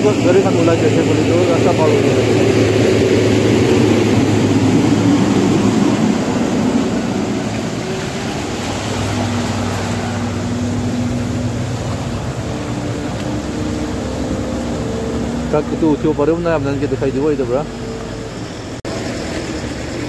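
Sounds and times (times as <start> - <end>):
diesel truck driving past: 0.0 - 20.0.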